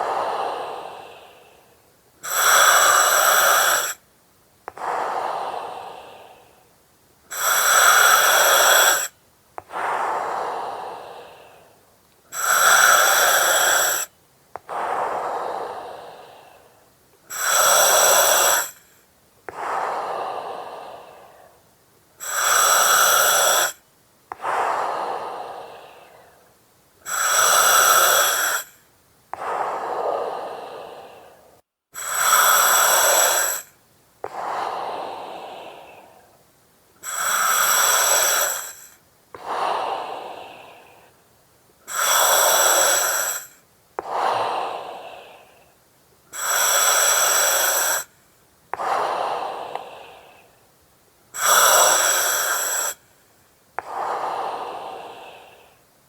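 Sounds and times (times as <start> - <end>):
breathing through oxygen mask: 0.0 - 4.0, 7.3 - 21.6, 22.2 - 28.8, 29.4 - 36.4, 37.0 - 41.2, 41.9 - 48.1, 48.7 - 50.5, 51.4 - 53.1, 53.8 - 55.9.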